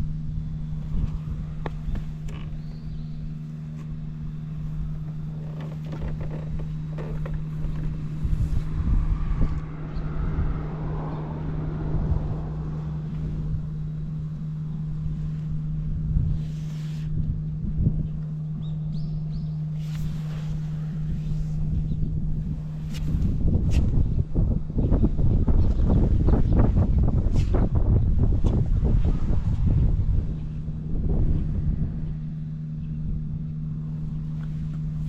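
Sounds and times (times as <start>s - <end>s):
scooter engine idling: 0.0s - 35.0s.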